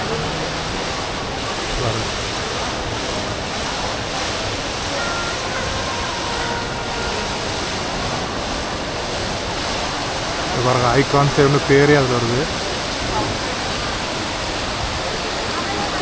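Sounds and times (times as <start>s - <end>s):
indoor waterfall rushing: 0.0s - 16.0s.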